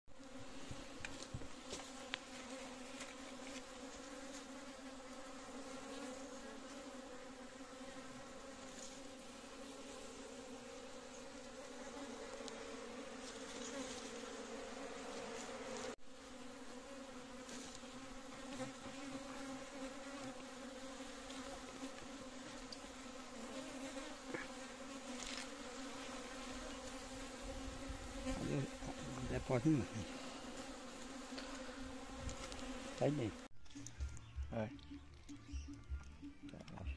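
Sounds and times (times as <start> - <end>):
bees buzzing: 0.1 - 34.4.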